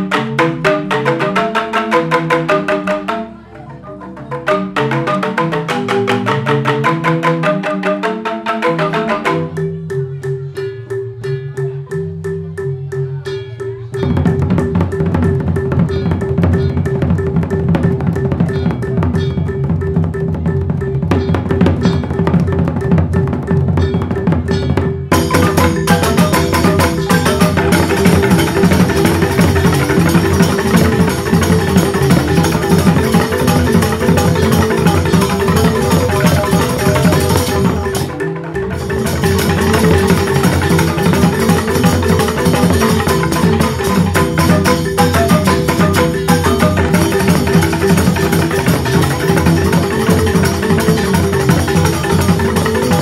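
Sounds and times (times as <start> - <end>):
bamboo xylophones playing fast notes: 0.0 - 53.0.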